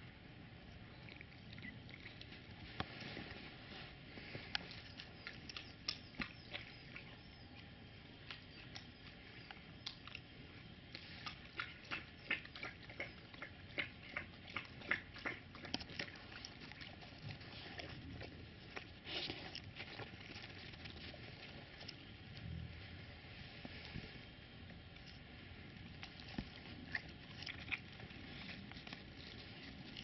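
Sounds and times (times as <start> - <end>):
puppy crunching food: 0.8 - 3.5, 4.1 - 22.5, 24.4 - 30.0.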